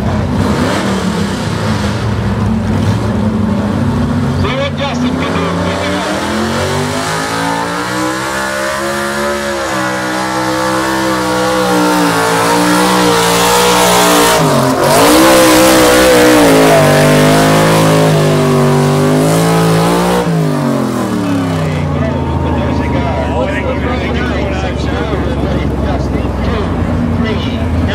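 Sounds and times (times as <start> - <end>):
truck engine revving under load: 0.0 - 27.9.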